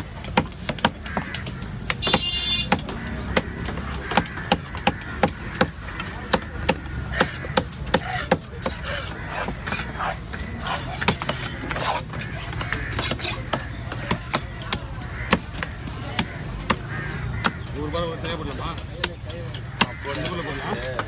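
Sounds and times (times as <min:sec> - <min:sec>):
knife chopping fish on wood: 0:00.2 - 0:17.6, 0:18.3 - 0:21.0.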